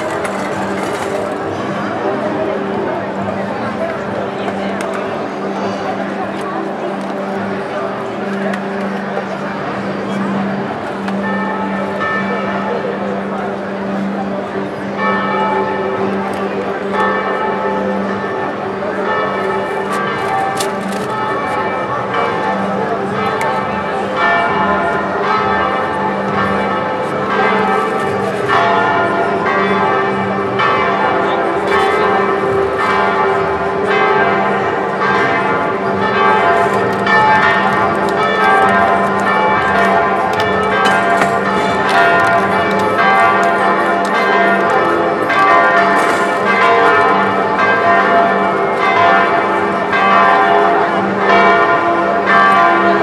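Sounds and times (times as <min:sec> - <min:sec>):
bells ringing: 0:00.0 - 0:53.0.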